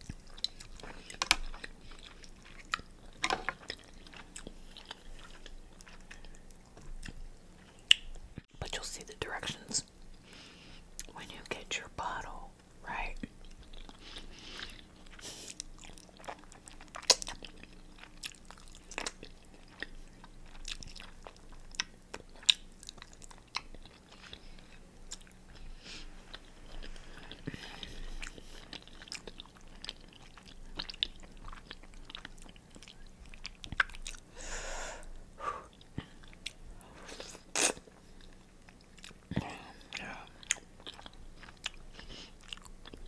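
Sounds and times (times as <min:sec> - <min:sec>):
person chewing and biting: 0:00.0 - 0:08.1, 0:13.4 - 0:25.6, 0:26.3 - 0:34.3, 0:35.7 - 0:39.3, 0:39.9 - 0:43.0.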